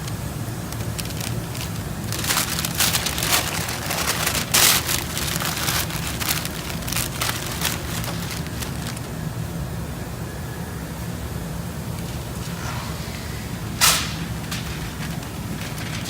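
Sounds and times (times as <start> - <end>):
paper crinkling and rustling: 0.0 - 9.2, 12.0 - 16.0
low hum: 0.0 - 16.0.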